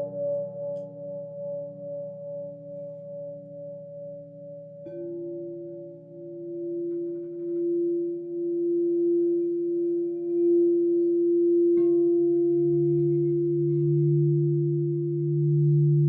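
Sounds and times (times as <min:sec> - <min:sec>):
low singing bowl struck: 0:00.0 - 0:16.0
singing bowls ringing: 0:00.0 - 0:16.0.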